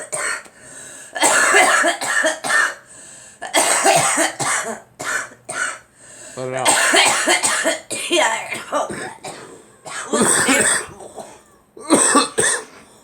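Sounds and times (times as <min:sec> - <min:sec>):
girl coughing: 0:00.0 - 0:00.5, 0:01.2 - 0:02.8, 0:03.4 - 0:05.9, 0:06.6 - 0:12.8.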